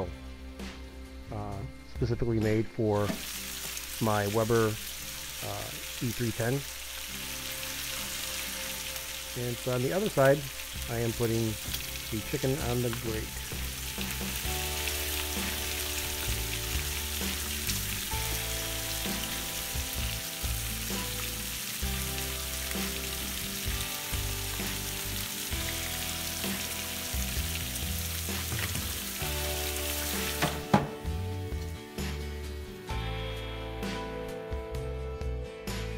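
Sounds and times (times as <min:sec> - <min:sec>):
background music: 0:00.0 - 0:35.9
meat sizzling on a grill: 0:03.0 - 0:33.1.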